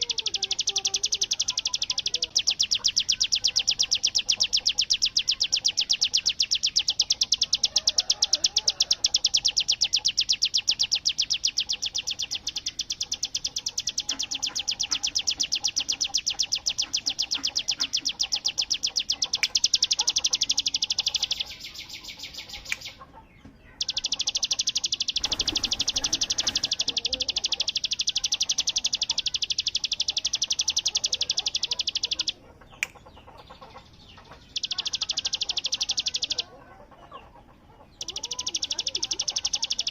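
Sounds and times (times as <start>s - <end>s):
bird singing rapid rattle: 0.0s - 39.9s.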